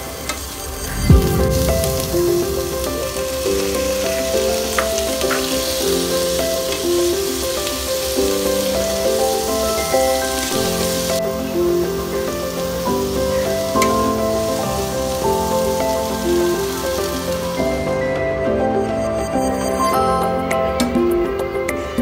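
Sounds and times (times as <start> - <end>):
vegetables sizzling in a frying pan: 0.0 - 18.2
light background melody: 1.1 - 22.0.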